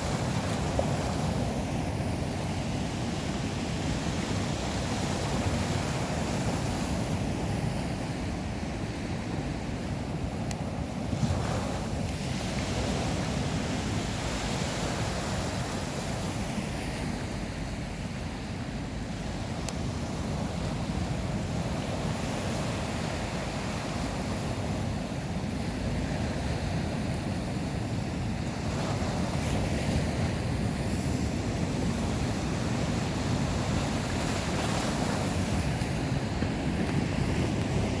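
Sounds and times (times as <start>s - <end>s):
sea waves washing ashore: 0.0s - 38.0s
wind buffeting microphone: 0.0s - 38.0s.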